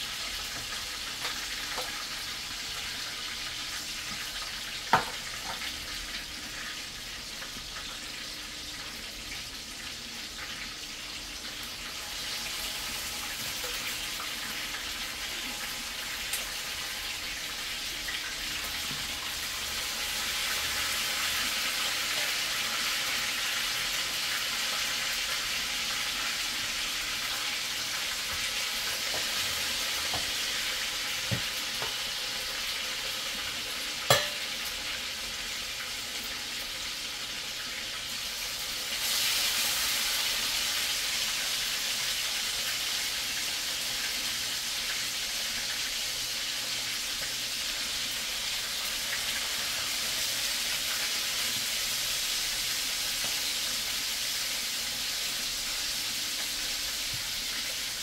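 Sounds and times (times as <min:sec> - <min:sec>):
chicken sizzling in a pan: 0:00.0 - 0:58.0.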